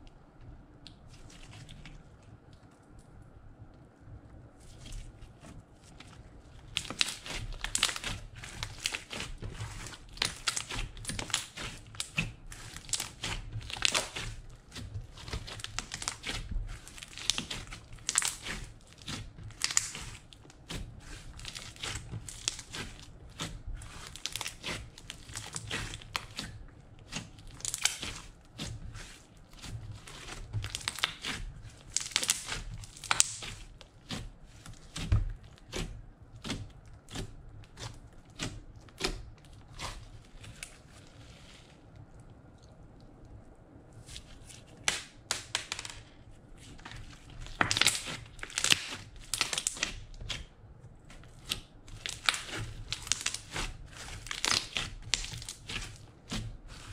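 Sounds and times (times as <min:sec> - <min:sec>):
slime crackling and squishing: 0:00.8 - 0:56.9.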